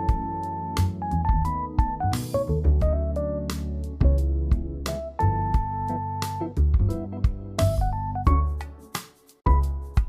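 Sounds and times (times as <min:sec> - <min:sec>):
bass: 0:00.0 - 0:10.0
keyboard: 0:00.0 - 0:10.0.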